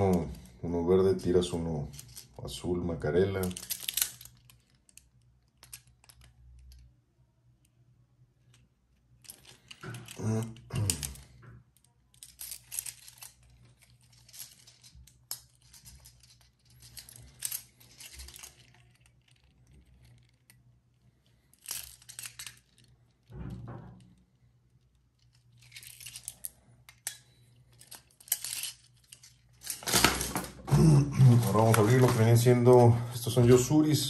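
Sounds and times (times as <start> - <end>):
rustling and clicks of plastic lures: 1.8 - 6.9, 8.4 - 33.8.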